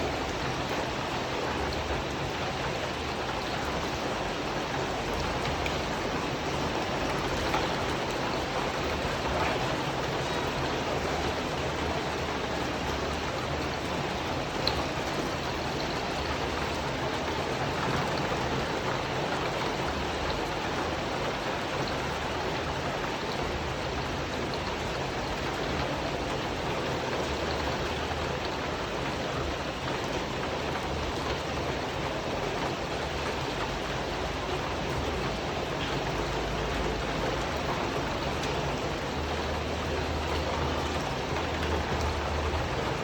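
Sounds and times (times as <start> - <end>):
rain on a tin roof: 0.0 - 43.0.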